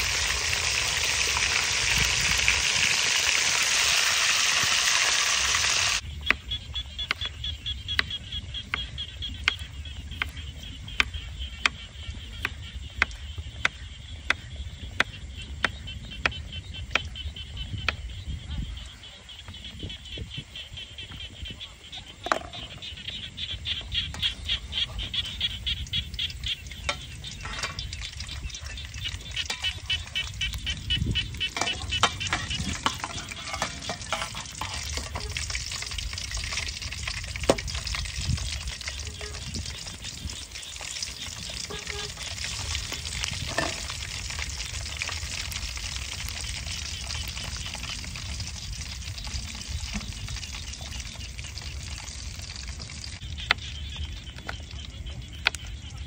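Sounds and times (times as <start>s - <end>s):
meat sizzling in hot oil: 0.0s - 14.6s, 22.8s - 55.8s.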